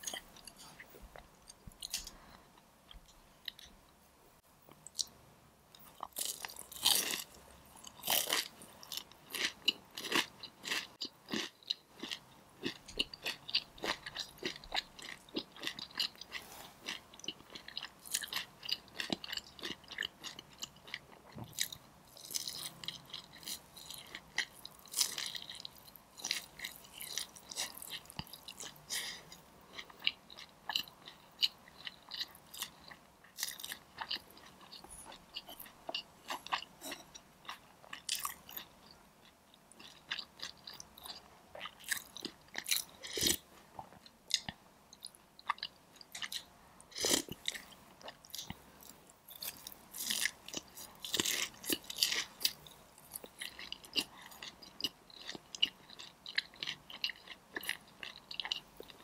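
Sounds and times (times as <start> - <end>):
crunching and chewing fried chicken: 5.8 - 59.0.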